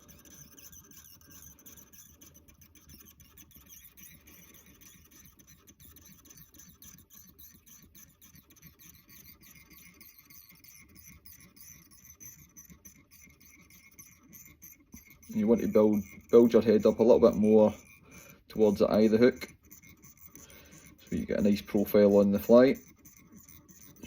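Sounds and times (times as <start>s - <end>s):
thread winding ticks: 0.0s - 24.0s.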